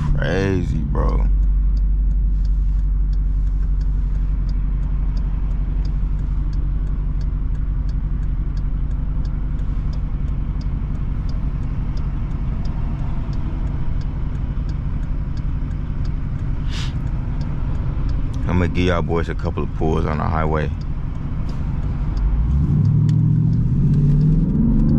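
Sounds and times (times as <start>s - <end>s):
car engine droning: 0.0s - 24.9s
turn signal ticking: 0.0s - 24.9s.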